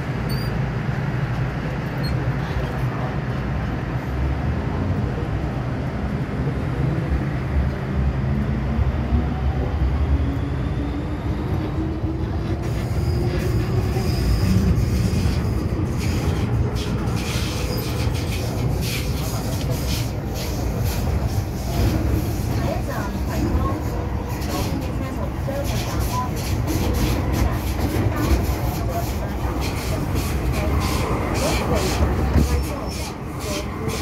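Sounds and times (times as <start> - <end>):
train wheels rumbling: 6.1 - 34.0.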